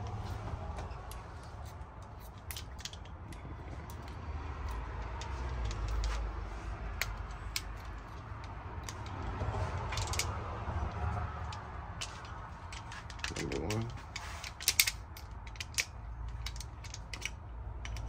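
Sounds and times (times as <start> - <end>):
metallic clicks and clinks of tools: 0.9 - 6.3, 6.9 - 18.0.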